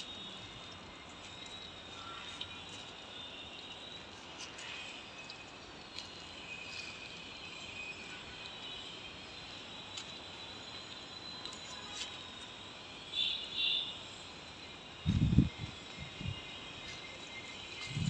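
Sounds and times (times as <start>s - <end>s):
insects trilling: 0.0s - 18.0s
lower insect trill: 0.0s - 18.0s.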